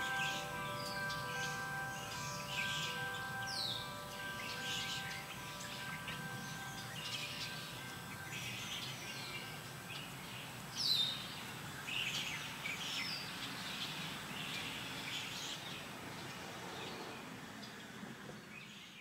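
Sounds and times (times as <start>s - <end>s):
birds chirping and calling: 0.0s - 19.0s
faint steady background hiss: 0.0s - 19.0s.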